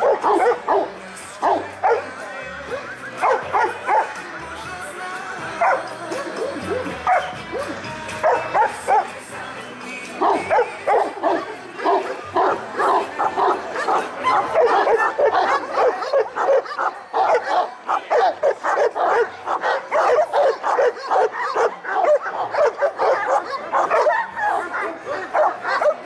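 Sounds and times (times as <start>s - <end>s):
dogs barking: 0.0s - 4.2s, 5.5s - 9.3s, 10.1s - 26.0s.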